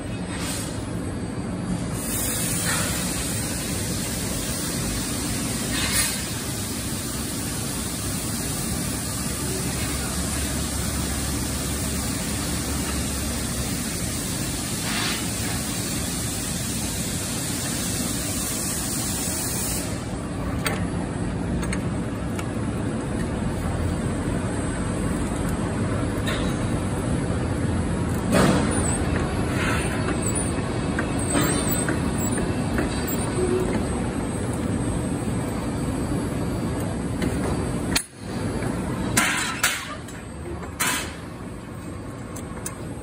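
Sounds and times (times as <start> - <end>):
hissy machinery noise: 0.1 - 43.0.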